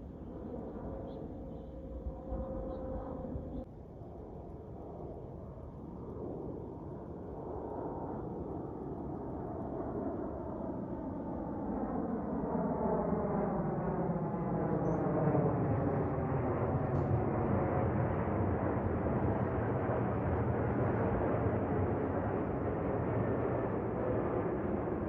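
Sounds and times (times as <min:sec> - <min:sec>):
jet engines passing overhead: 0:00.0 - 0:25.0.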